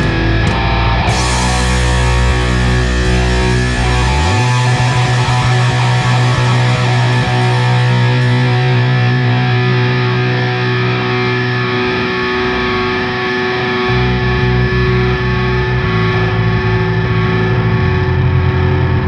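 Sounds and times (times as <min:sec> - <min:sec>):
distorted electric guitar: 0:00.0 - 0:19.0
heavy rhythmic low end: 0:00.0 - 0:19.0.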